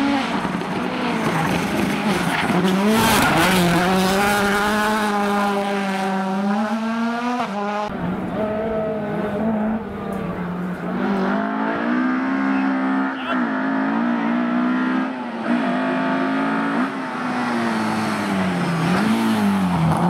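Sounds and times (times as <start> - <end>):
rally car engine at high revs: 0.0 - 20.0.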